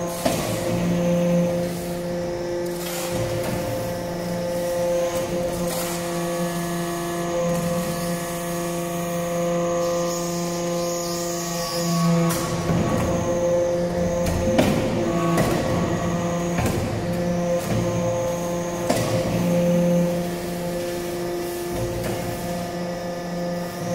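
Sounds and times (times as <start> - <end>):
hydraulic power unit hum: 0.0 - 23.9.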